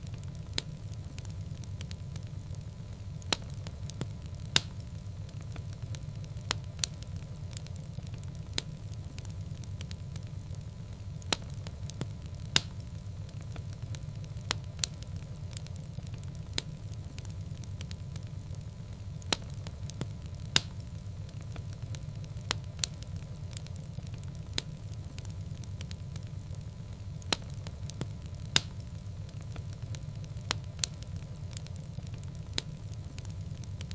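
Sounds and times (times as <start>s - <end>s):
fire crackling and popping: 0.0s - 33.9s
fire rumbling in fireplace: 0.0s - 33.9s.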